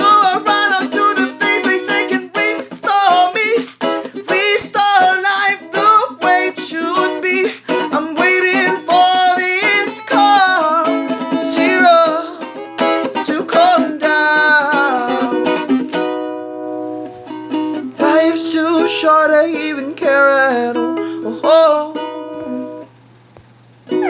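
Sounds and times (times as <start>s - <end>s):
person singing: 0.0s - 15.8s, 18.0s - 22.8s
strummed acoustic string instrument: 0.0s - 22.9s.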